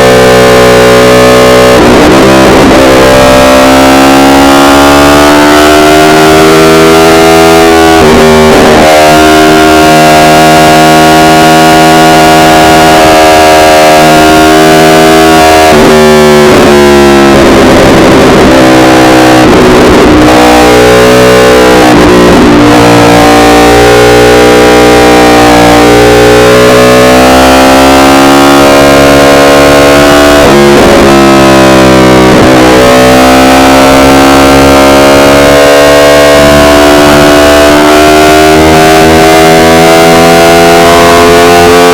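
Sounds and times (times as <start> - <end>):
motorcycle engine revving at speed: 0.0 - 41.9.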